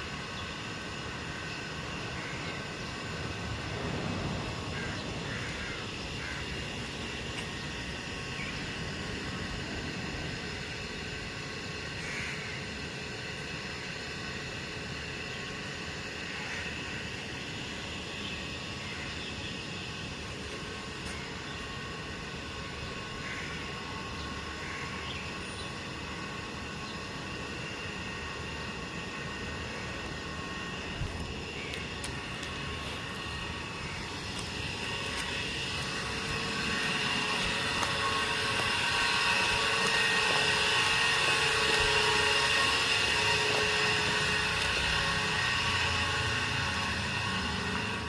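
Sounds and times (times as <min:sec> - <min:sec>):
drone of held tones: 0:00.0 - 0:48.0
noisy rumble: 0:00.0 - 0:48.0.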